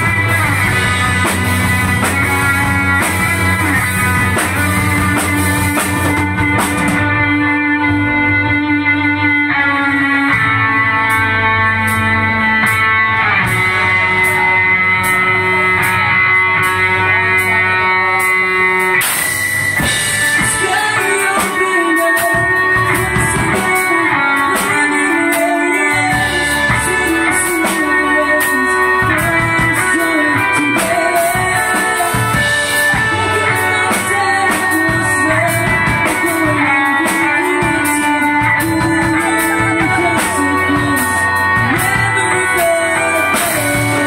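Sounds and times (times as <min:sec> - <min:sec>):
drum kit: 0:00.0 - 0:44.0
electric bass: 0:00.0 - 0:44.0
electric guitars: 0:00.0 - 0:44.0.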